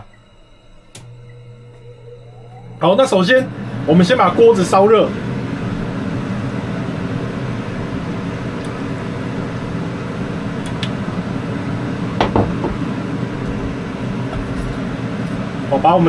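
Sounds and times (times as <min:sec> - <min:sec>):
range hood fan humming: 0:00.0 - 0:16.0.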